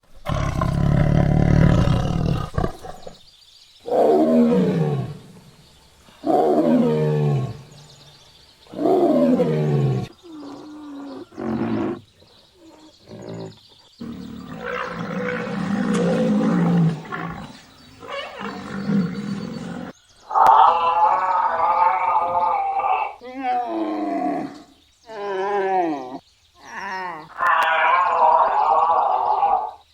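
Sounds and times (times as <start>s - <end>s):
big cat roaring: 0.2s - 3.2s, 3.9s - 5.4s, 6.2s - 7.8s, 8.7s - 12.0s, 12.6s - 26.2s, 27.3s - 29.8s.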